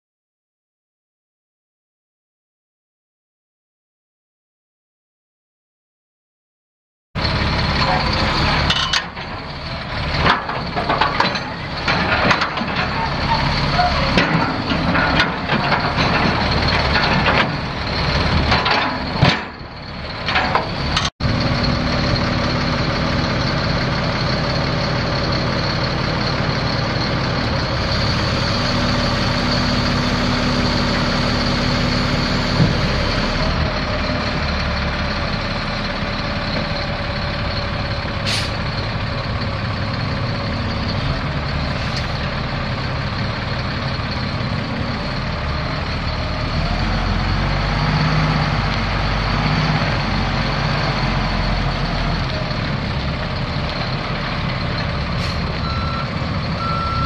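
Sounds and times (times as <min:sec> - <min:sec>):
diesel truck engine running: 0:07.2 - 0:57.0.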